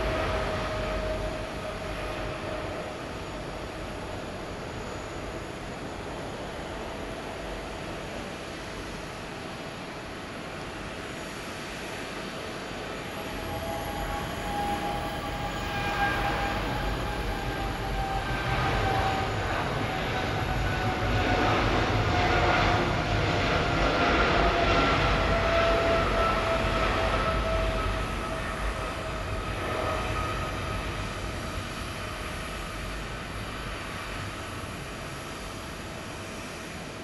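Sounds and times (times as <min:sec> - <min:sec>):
jet engines roaring at takeoff: 0:00.0 - 0:37.0.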